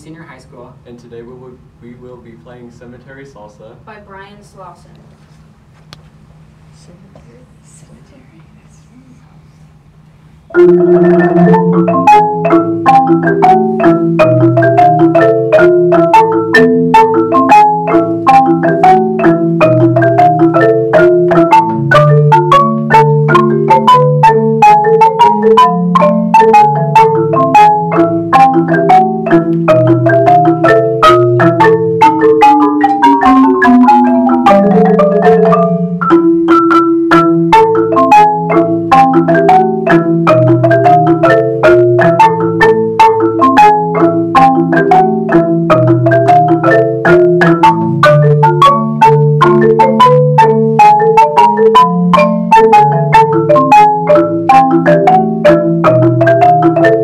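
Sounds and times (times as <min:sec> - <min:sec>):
marimba salsa piece: 0:10.5 - 0:57.0.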